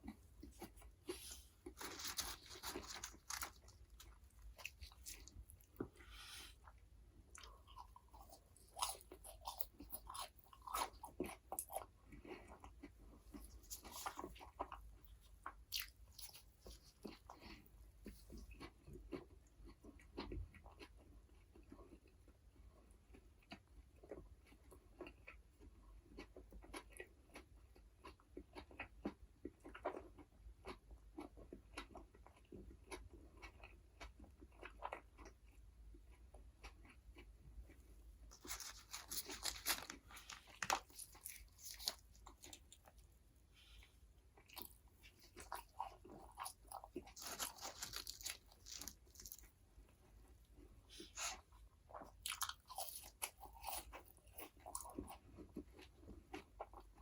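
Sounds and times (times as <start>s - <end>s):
soft chewing: 0.0s - 57.0s.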